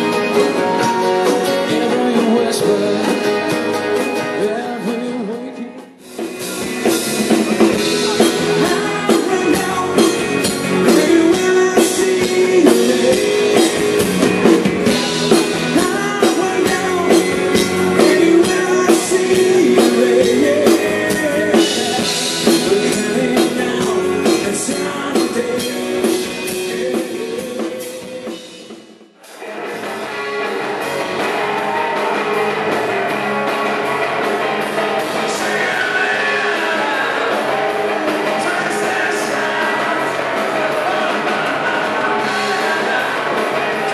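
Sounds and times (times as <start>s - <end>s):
person singing: 0.0s - 28.5s, 33.1s - 43.9s
rock band playing: 0.0s - 43.9s.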